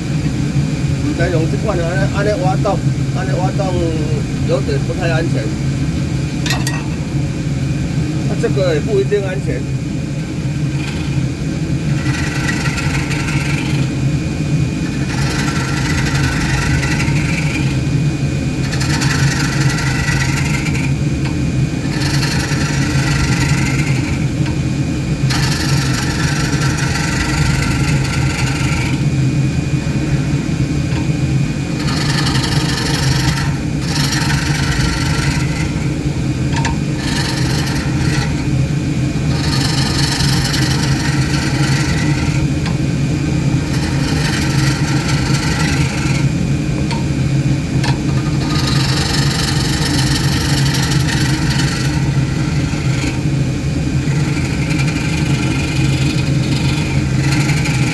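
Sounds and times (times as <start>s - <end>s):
lathe motor running: 0.0s - 57.9s
tool cutting spinning wood: 0.0s - 57.9s.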